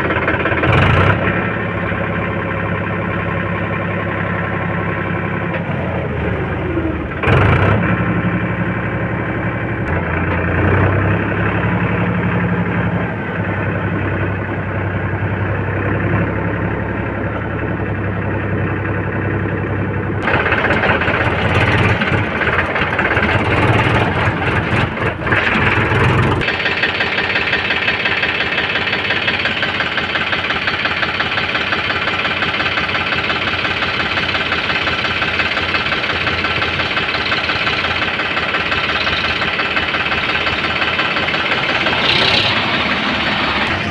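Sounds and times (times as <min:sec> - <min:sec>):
heavy machinery diesel engine: 0:00.0 - 0:43.9.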